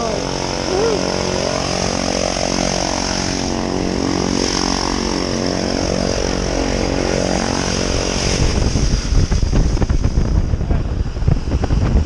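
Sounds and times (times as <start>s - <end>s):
propeller engine drone: 0.0s - 12.0s.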